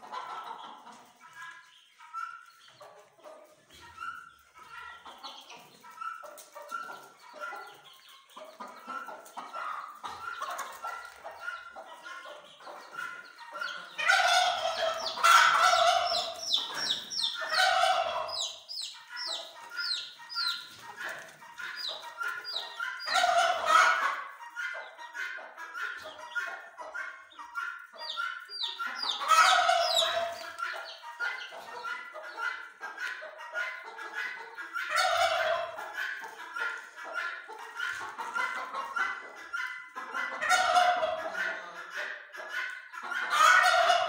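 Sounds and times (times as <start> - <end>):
chickens clucking: 0.0 - 44.0
chickens squawking: 0.0 - 44.0.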